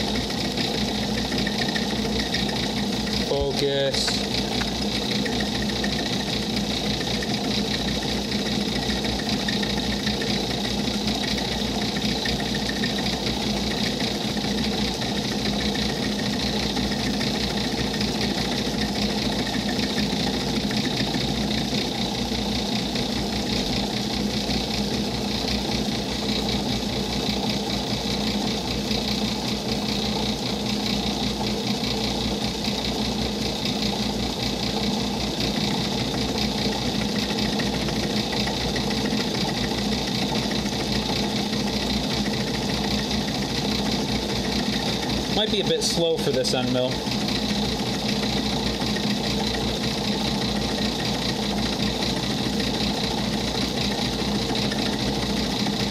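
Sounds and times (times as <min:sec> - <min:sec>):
high whine of milling: 0:00.0 - 0:55.9
lathe droning: 0:00.0 - 0:55.9.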